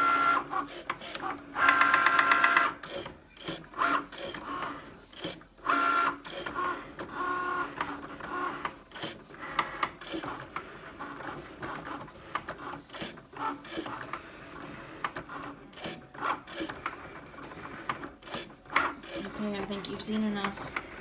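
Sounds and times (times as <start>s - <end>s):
cutting machine motors whirring: 0.0s - 21.0s.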